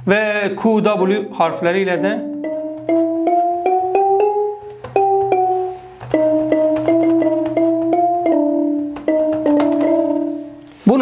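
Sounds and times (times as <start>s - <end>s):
marimba melody: 1.1s - 10.7s.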